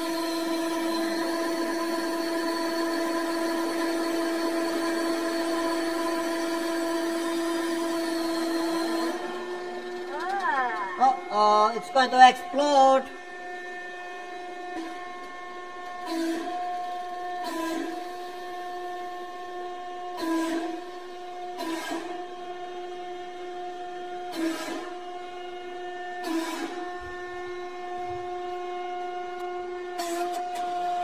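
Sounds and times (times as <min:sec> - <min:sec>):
hydraulic press whining: 0:00.0 - 0:31.0.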